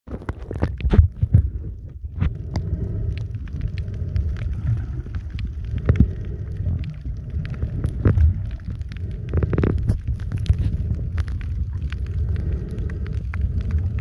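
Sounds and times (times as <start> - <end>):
sharp clicks and crackles: 0.1 - 14.0
underwater water movement rumble: 0.1 - 14.0.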